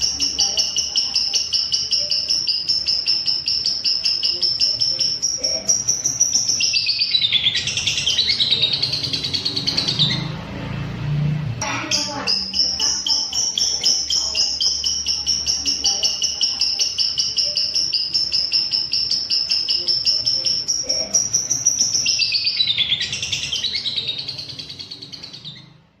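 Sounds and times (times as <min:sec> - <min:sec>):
bird fast chatter: 0:00.0 - 0:10.3, 0:11.6 - 0:25.8
bird high sharp chirps: 0:00.0 - 0:10.4, 0:11.6 - 0:25.9.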